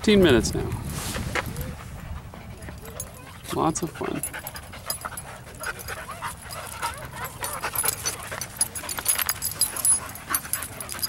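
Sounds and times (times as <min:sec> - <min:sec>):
dogs scuffling and mouthing: 0:00.6 - 0:11.0
dog vocal sounds: 0:01.4 - 0:11.0.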